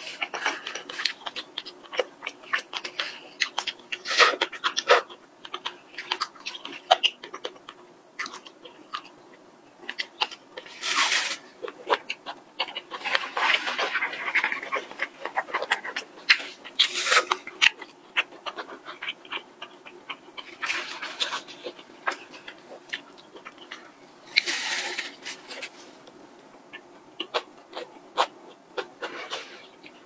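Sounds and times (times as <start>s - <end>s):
chewing with wet mouth clicks: 0.2s - 10.7s, 11.6s - 23.9s, 26.7s - 30.0s.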